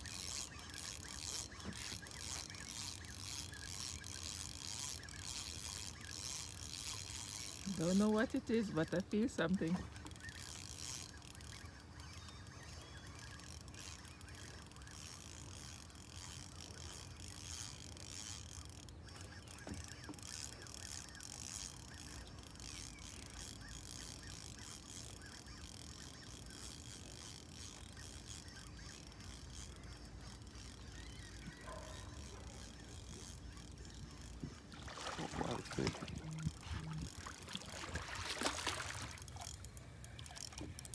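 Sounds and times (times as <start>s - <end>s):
fishing reel ratchet clicking: 0.0s - 40.9s.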